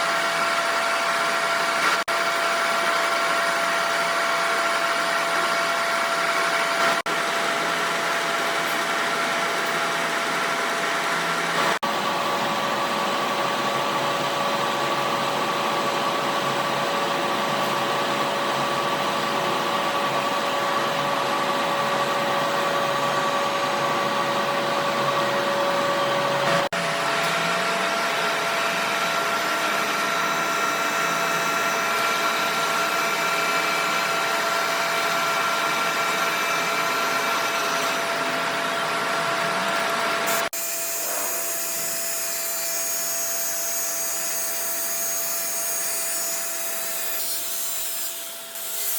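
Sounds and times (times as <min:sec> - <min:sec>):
machine motor whine: 0:00.0 - 0:48.9.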